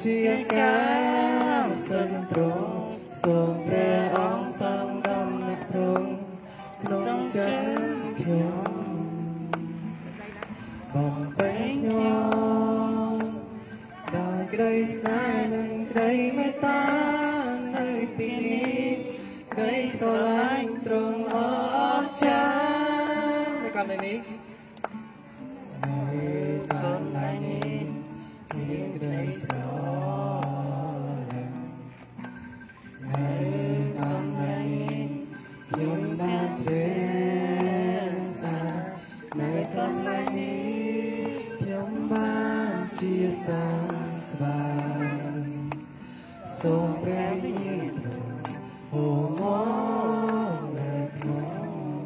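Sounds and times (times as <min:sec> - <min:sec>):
person singing worship song: 0:00.0 - 0:52.0.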